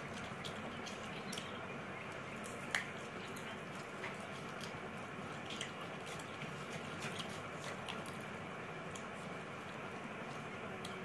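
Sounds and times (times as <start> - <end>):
chewing and mouth clicks: 0.0 - 11.0.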